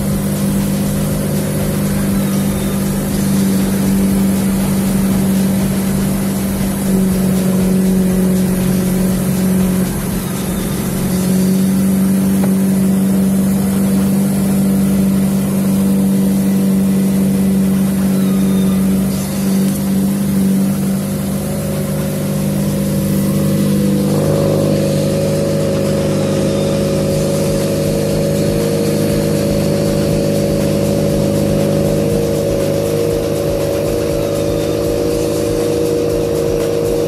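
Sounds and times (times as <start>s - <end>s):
vehicle engine humming: 0.0s - 37.0s.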